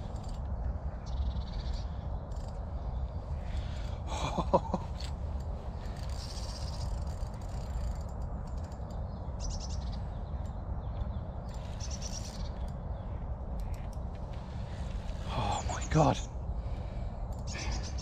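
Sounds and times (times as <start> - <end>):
wind rumble on microphone: 0.0 - 15.6.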